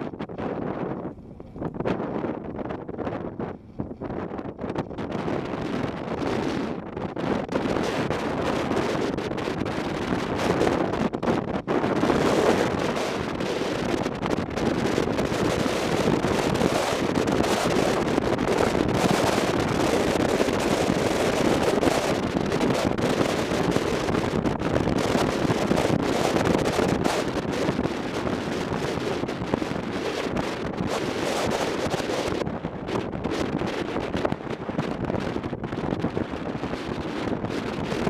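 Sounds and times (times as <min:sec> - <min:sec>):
wind rushing over microphone: 0:00.0 - 0:38.0.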